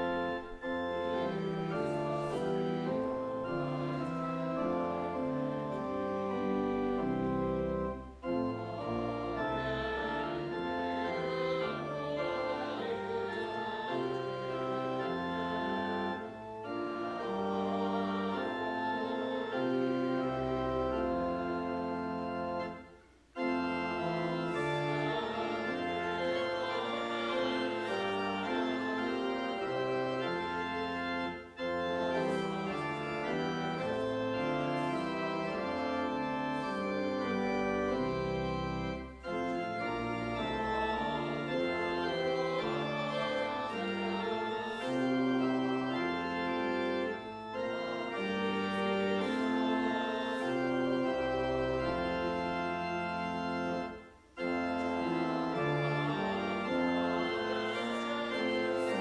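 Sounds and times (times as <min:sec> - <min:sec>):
pipe organ playing hymn: 0:00.0 - 0:59.0.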